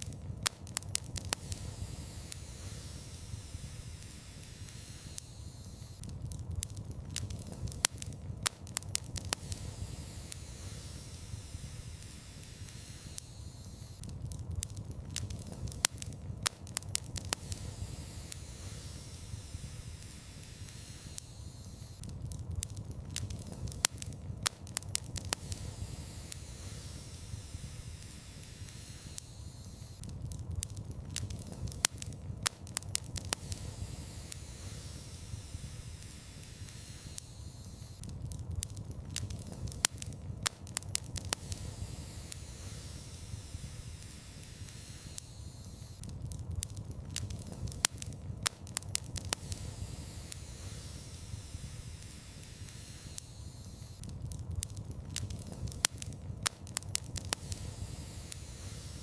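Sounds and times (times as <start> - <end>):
fire crackling and popping: 0.0 - 59.0
fire rushing in fireplace: 0.0 - 59.0.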